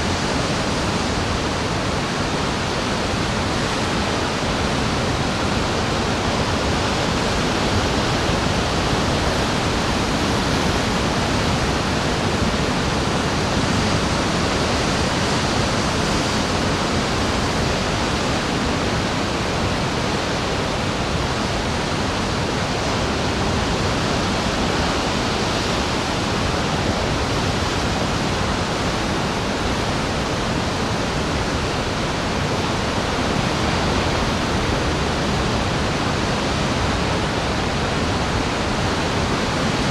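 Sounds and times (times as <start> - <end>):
ocean surf rushing: 0.0 - 39.9.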